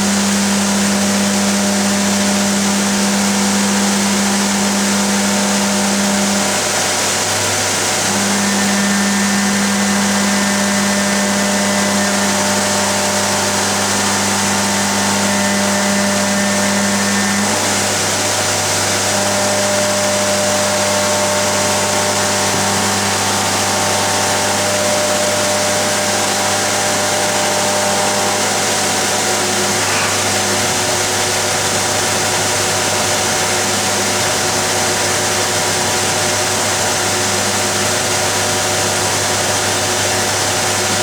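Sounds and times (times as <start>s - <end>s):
machine spindle hum: 0.0s - 41.0s.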